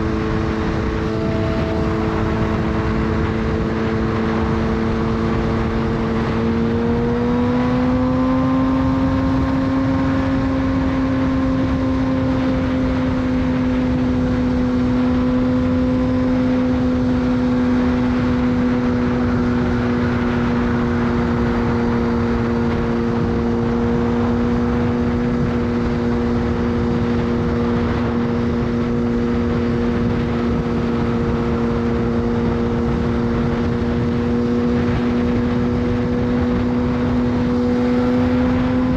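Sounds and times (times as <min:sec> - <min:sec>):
motorcycle engine cruising: 0:00.0 - 0:38.9
wind rush: 0:00.0 - 0:38.9.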